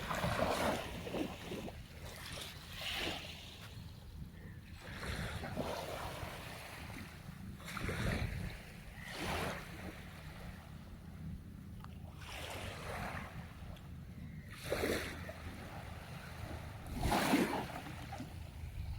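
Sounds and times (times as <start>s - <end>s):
sea waves breaking: 0.0s - 4.0s, 4.7s - 11.0s, 12.0s - 13.8s, 14.5s - 18.9s
wind on microphone: 0.0s - 18.9s.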